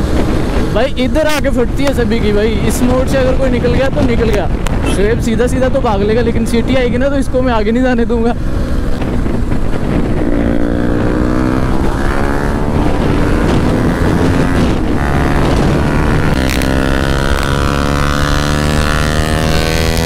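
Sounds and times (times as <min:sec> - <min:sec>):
motorcycle engines running hard: 0:00.0 - 0:20.0
wind rushing over microphone: 0:00.0 - 0:20.0.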